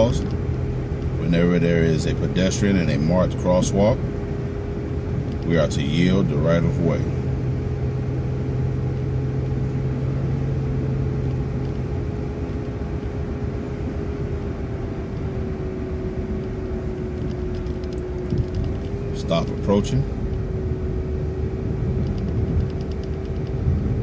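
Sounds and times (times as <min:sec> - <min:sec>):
bus engine and road rumble: 0:00.0 - 0:24.0
constant whine: 0:00.0 - 0:24.0
deep hum: 0:00.0 - 0:24.0.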